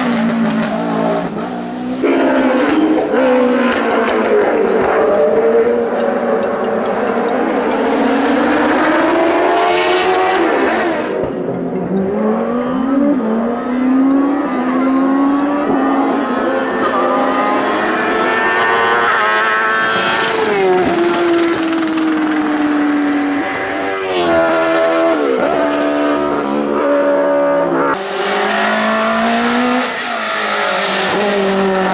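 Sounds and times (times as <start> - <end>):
race car engine accelerating: 0.0 - 31.9.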